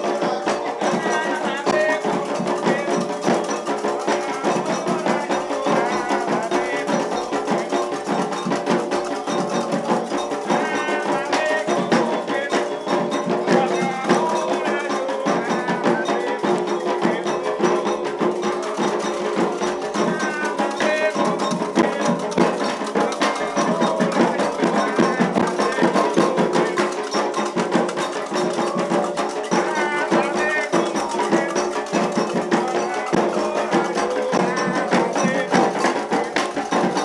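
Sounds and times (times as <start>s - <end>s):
hand drumming: 0.0s - 37.0s
struck percussion pattern: 0.0s - 37.0s
voices singing: 0.0s - 37.0s.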